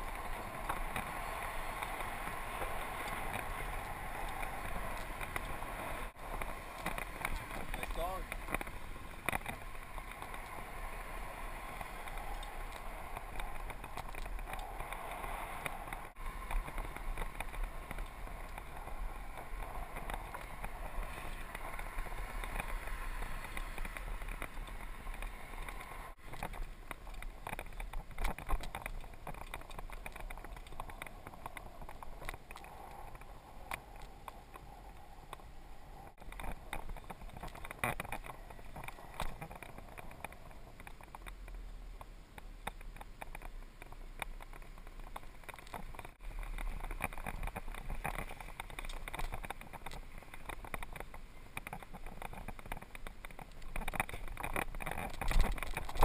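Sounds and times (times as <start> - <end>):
bike rattles and clicks: 0.0 - 56.0
tyre and wind noise: 0.0 - 56.0.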